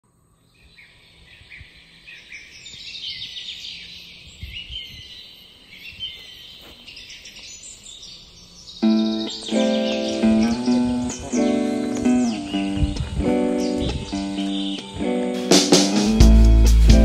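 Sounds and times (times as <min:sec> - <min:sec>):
birds chirping and singing: 0:00.4 - 0:17.0.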